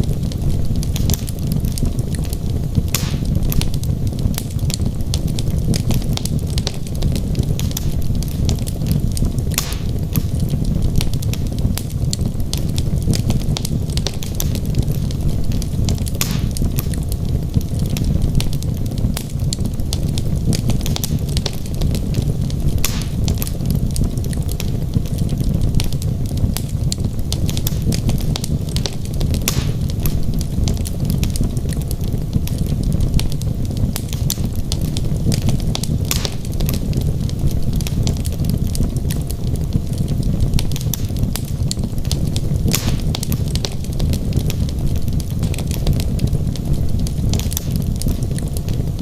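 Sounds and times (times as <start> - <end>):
logs crackling and popping: 0.0 - 49.0
low rumble of flames: 0.0 - 49.0.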